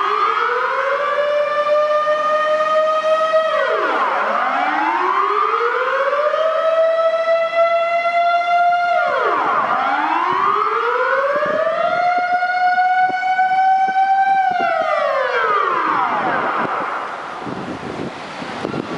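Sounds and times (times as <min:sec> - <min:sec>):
warning siren wailing: 0:00.0 - 0:18.9.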